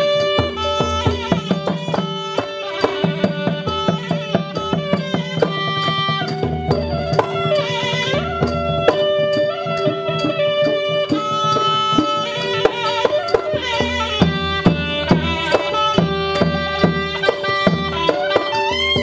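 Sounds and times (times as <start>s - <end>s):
drum beats: 0.0s - 19.0s.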